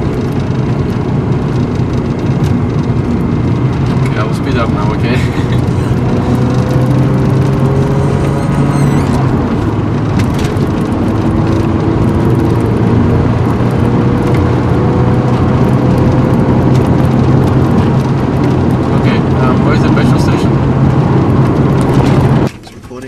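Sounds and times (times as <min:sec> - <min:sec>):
car engine droning: 0:00.0 - 0:23.0
tyre and road noise: 0:00.0 - 0:23.0.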